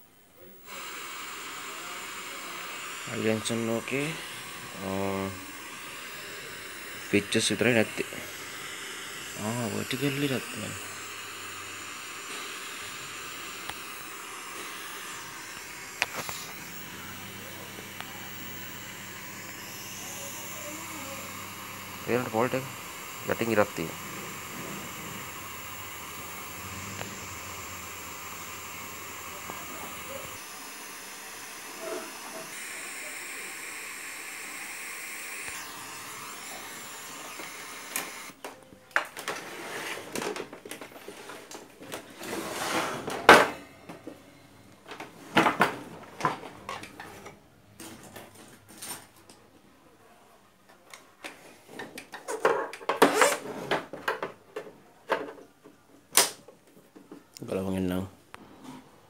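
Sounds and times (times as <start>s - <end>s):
television hiss with faint tones: 0.0s - 59.0s.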